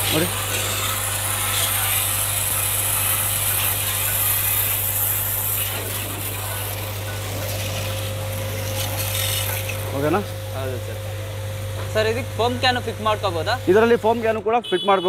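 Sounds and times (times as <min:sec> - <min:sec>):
water jet hissing on car: 0:00.0 - 0:11.2, 0:11.9 - 0:14.4
pressure washer pump humming: 0:00.0 - 0:14.8.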